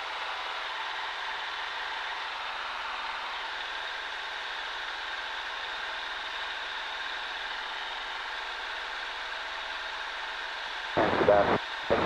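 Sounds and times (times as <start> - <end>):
piston engine drone in cockpit: 0.0 - 12.0.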